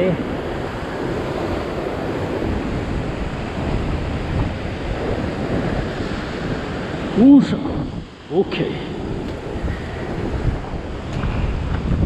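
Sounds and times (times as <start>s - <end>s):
surf churning over rocks: 0.0s - 12.0s
wind rumbling on microphone: 0.0s - 12.0s.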